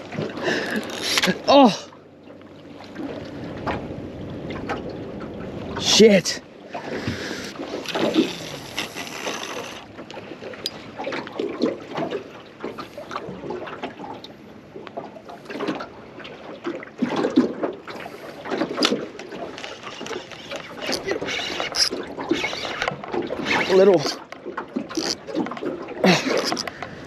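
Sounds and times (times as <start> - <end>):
water lapping against boat hull: 0.0 - 27.0.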